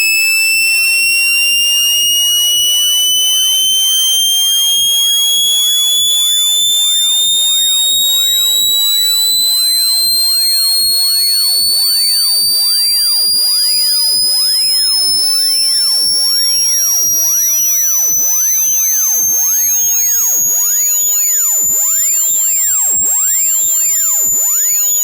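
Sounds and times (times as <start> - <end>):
buzzy electronic tone rising: 0.0 - 22.6.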